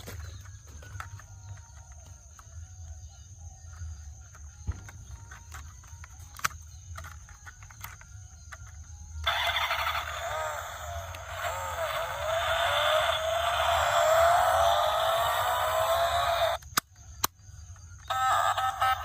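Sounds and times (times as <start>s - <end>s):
toy car whirring: 0.0s - 19.0s.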